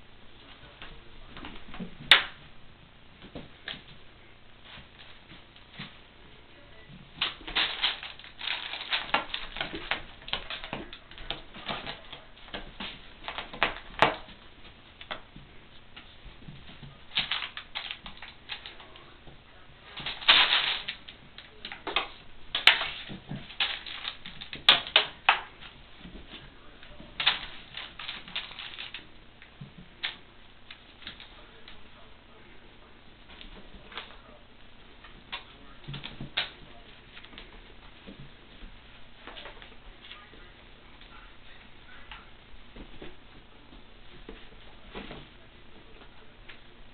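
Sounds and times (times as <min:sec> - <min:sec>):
kittens scuffling and pouncing: 0:00.3 - 0:46.9.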